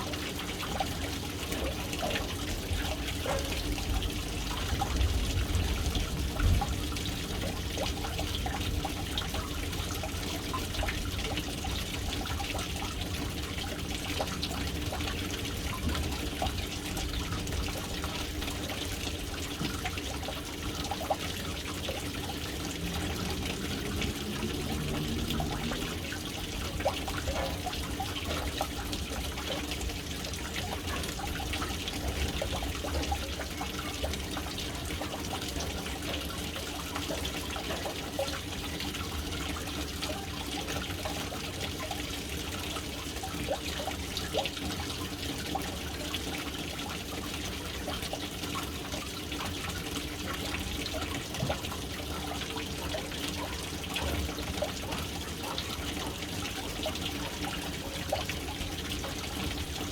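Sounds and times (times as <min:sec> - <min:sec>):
water pouring into tank: 0:00.0 - 0:59.9.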